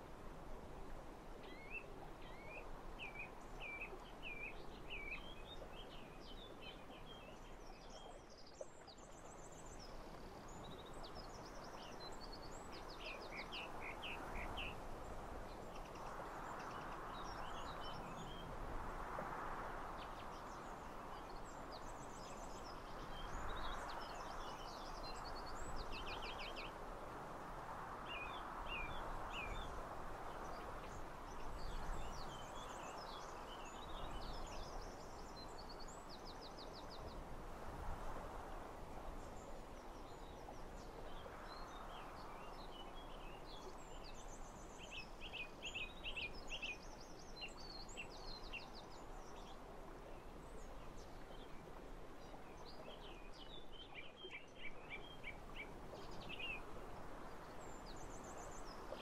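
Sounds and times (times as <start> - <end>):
wind gusts: 0.0 - 59.0.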